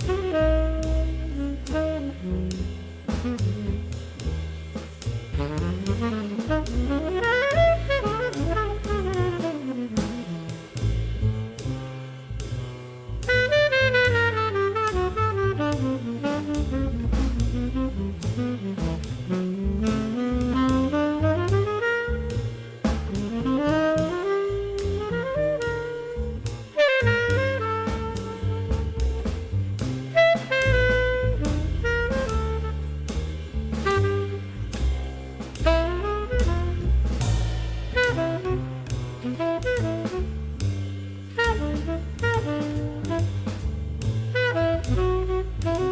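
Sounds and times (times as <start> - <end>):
bass and drums: 0.0 - 45.9
jazz saxophone melody: 0.0 - 45.9.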